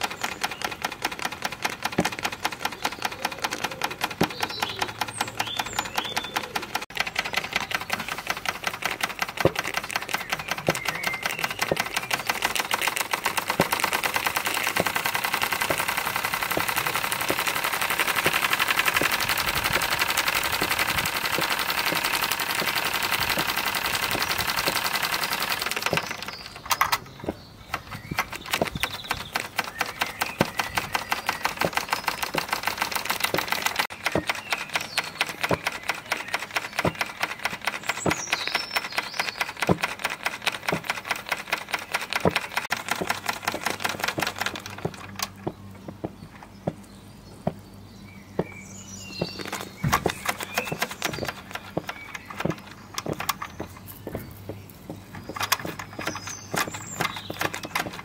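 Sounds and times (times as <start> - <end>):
toy steam engine exhaust clatter: 0.0 - 45.5, 49.1 - 58.0.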